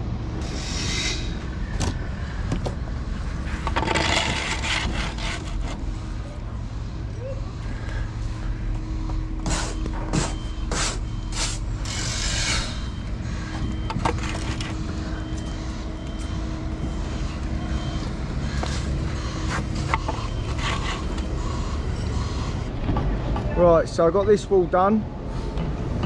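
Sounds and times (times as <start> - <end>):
machinery engine hum: 0.0 - 26.0.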